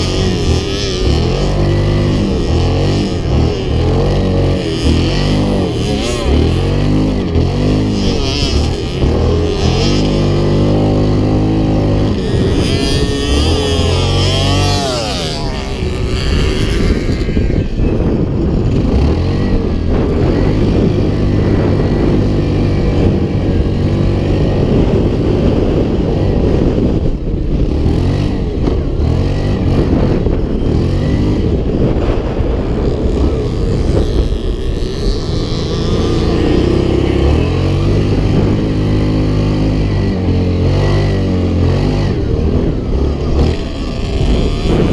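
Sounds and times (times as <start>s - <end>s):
motorcycle and quad engines revving: 0.0s - 44.9s.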